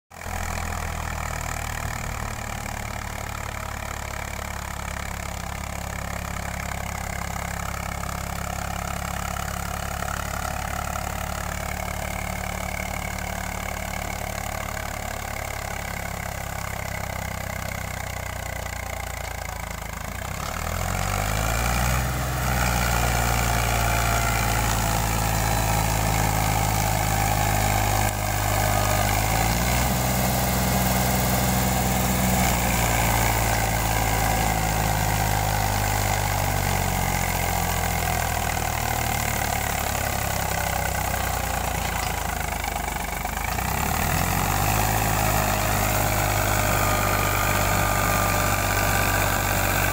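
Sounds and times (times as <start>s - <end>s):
tractor diesel engine under load: 0.1s - 49.9s.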